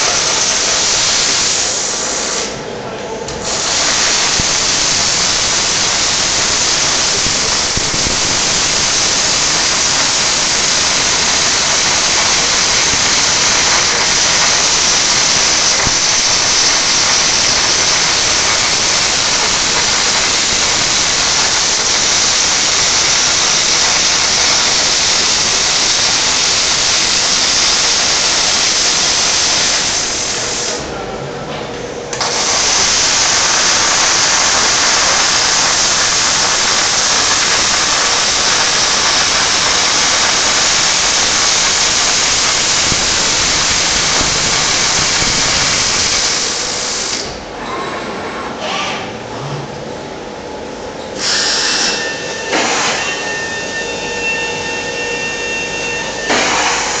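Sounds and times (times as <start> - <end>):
welding arc crackling and hissing: 0.0 - 2.6, 3.3 - 30.8, 32.1 - 47.5, 51.2 - 53.4, 56.0 - 57.0.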